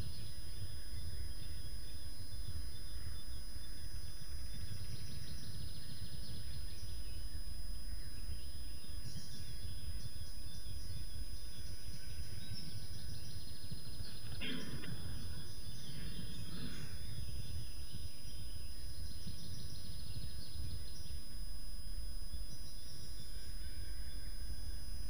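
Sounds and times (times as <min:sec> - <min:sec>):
faint birds chirping: 0:00.0 - 0:25.0
low rumble of microphone noise: 0:00.0 - 0:25.0.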